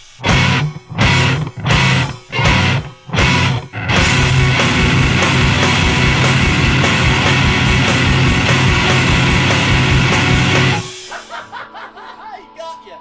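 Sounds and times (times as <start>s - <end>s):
rock band playing: 0.0s - 11.5s.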